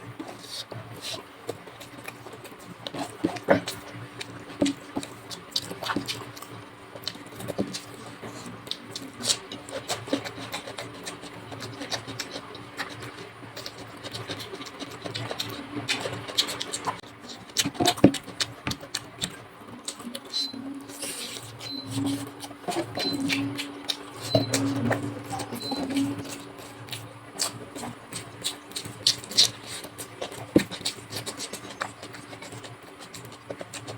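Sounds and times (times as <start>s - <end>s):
wet chewing and lip smacks: 0.3s - 33.9s.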